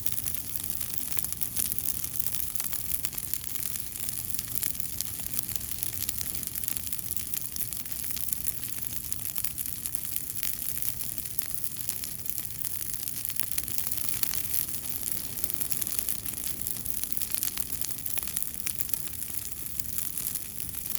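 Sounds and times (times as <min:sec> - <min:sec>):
fire crackling: 0:00.0 - 0:20.9.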